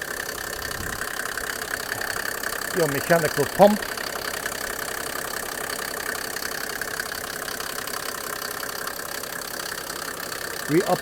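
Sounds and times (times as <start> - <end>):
diesel engine idling with clatter: 0.0 - 11.0.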